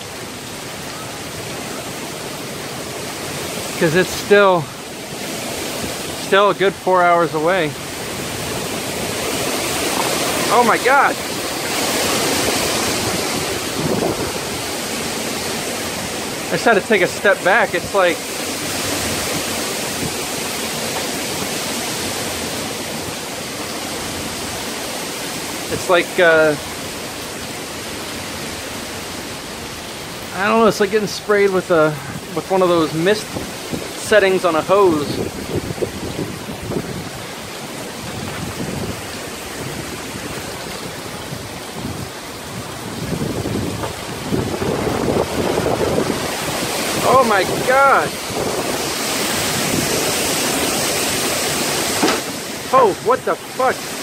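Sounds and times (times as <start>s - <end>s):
heavy wind-driven rain: 0.0s - 54.0s.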